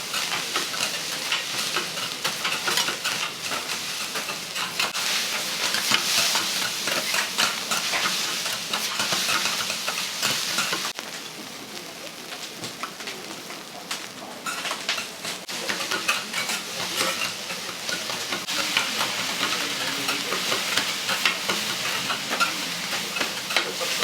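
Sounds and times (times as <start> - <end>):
metal spatulas scraping and clacking: 0.0 - 10.9, 14.4 - 24.0
food sizzling on a griddle: 0.0 - 24.0.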